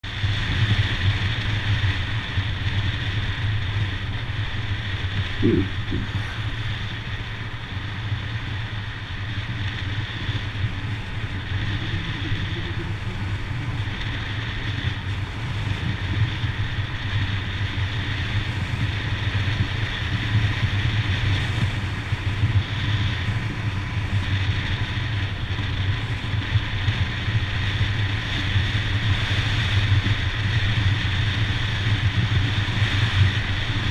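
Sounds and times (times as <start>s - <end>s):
motorcycle engine running: 0.0s - 33.9s
wind noise on microphone: 0.0s - 33.9s.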